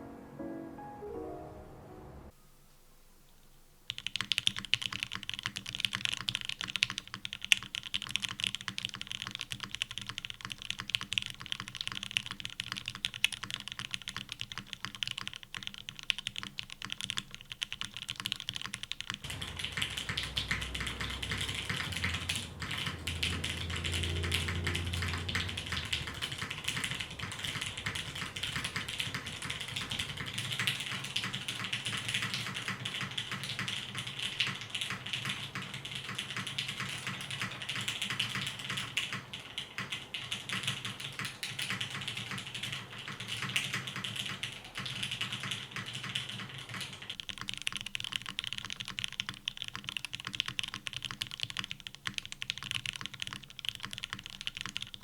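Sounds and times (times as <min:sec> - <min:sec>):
fast typing on mechanical keyboard: 0:03.9 - 0:55.0.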